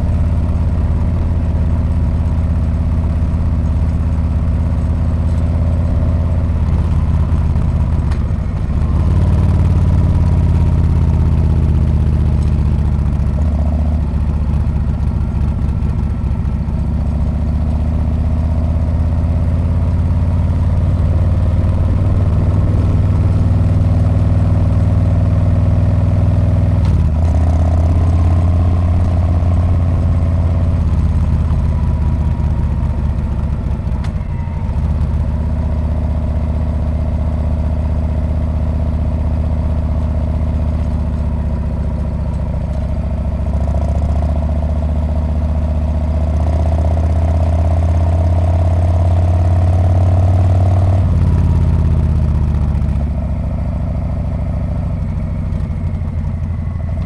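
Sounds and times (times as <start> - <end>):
motorcycle exhaust running: 0.0 - 57.0.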